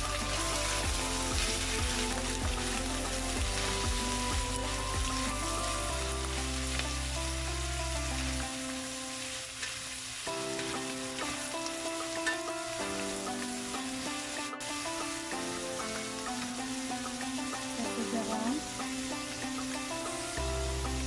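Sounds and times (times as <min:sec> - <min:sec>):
background music of held notes: 0:00.0 - 0:21.0
vegetables sizzling in hot oil: 0:00.0 - 0:21.0.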